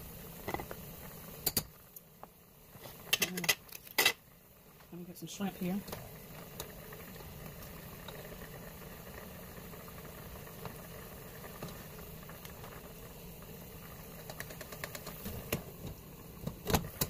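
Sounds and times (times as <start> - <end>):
pot bubbling at the boil: 0.0 - 17.0.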